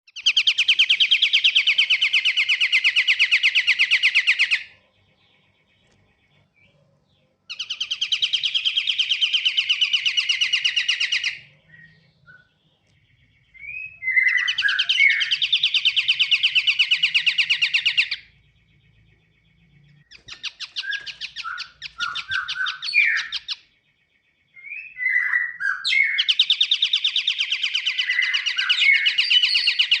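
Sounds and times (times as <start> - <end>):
bird trilling: 0.1 - 30.0
sharp bird chirps: 0.1 - 30.0.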